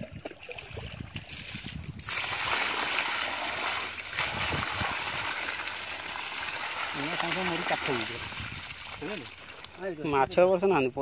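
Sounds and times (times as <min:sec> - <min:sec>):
water pouring onto fish: 0:00.4 - 0:09.8.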